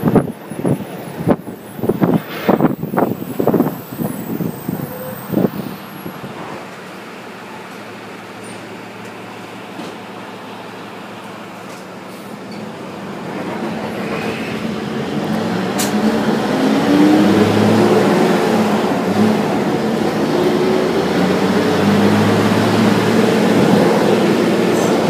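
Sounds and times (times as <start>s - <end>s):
vehicle motor humming: 0.0s - 25.0s.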